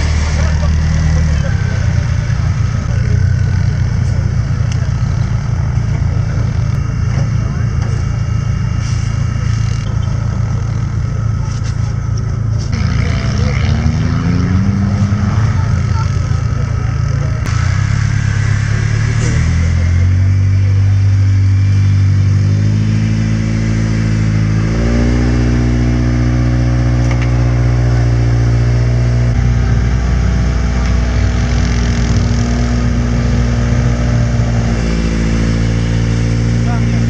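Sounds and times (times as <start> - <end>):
truck engine working under load: 0.0 - 37.0.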